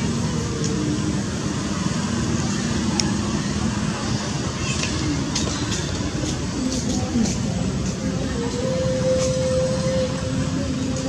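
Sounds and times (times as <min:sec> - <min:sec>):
faint distant voices: 0:00.0 - 0:11.0
outdoor background noise: 0:00.0 - 0:11.0.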